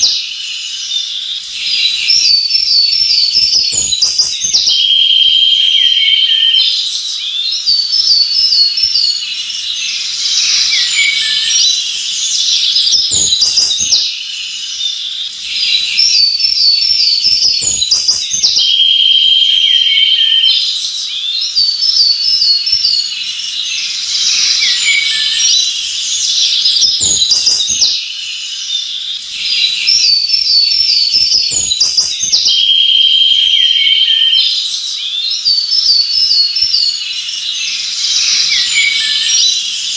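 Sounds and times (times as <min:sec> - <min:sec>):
forest birds chirping and singing: 0:00.0 - 0:39.9.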